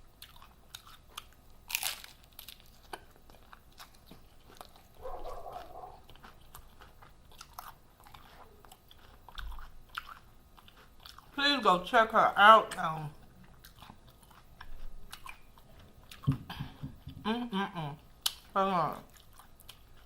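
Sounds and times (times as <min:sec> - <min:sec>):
crunching and chewing: 0:00.0 - 0:11.9, 0:13.1 - 0:16.5, 0:18.0 - 0:20.0.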